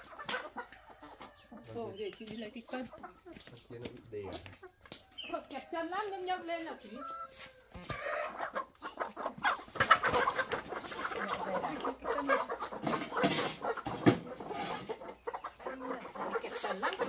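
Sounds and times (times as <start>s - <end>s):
hens clucking and squawking: 0.0s - 17.0s.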